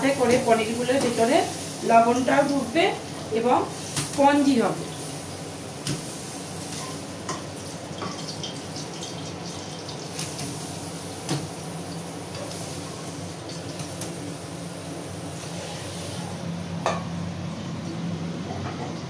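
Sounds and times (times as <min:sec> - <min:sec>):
extractor fan running: 0:00.0 - 0:19.0.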